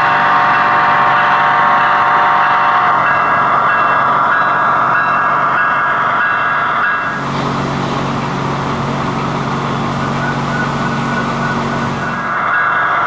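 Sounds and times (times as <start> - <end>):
model train diesel engine sound: 0.0 - 13.0.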